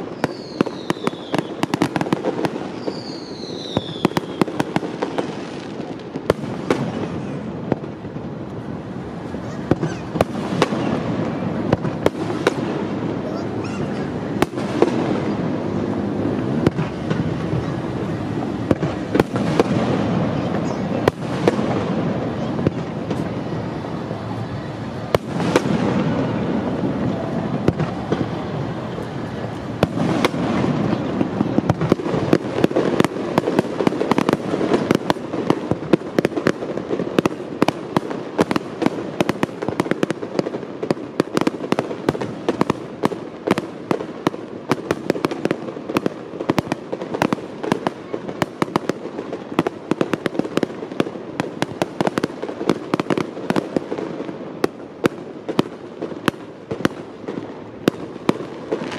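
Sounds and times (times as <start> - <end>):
fireworks bursting with echo: 0.0 - 58.9
fireworks crackling and popping: 0.0 - 58.9.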